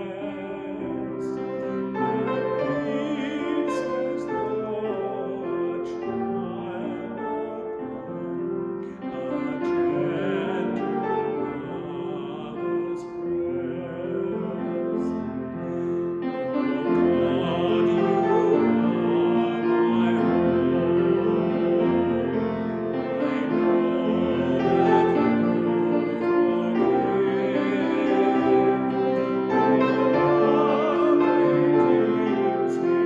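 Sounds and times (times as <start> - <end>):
slow church music on keyboard: 0.0 - 33.0.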